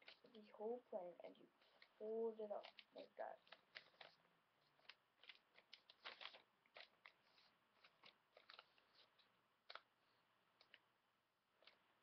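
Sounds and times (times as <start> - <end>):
paper being folded: 0.0 - 0.8, 1.6 - 12.0.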